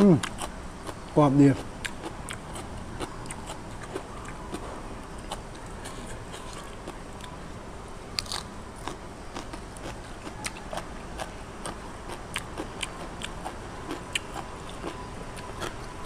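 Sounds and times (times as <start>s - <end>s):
person chewing crisp food: 0.0s - 7.4s, 8.1s - 16.0s.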